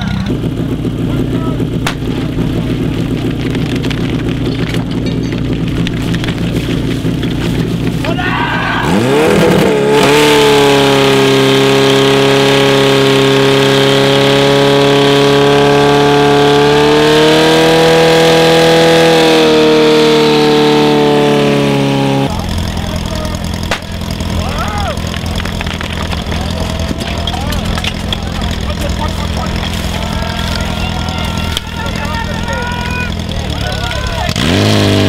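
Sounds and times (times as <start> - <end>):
pump engine droning at high revs: 0.0 - 35.0.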